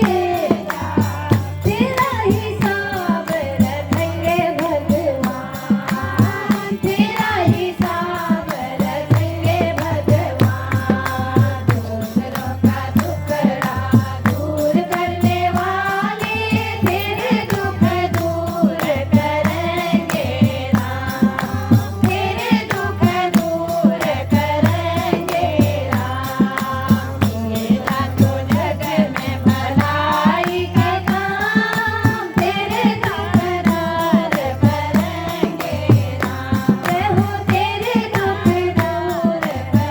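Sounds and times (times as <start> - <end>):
fast drum beat: 0.0 - 39.9
woman singing devotional song: 0.0 - 39.9.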